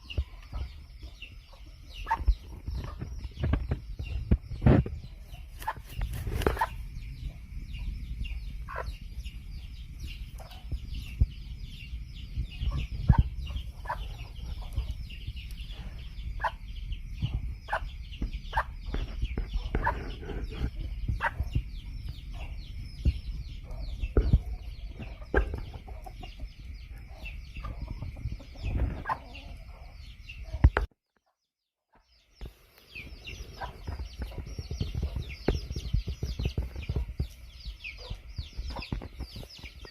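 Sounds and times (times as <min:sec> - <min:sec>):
chickens clucking: 0:00.0 - 0:30.9, 0:31.9 - 0:39.9.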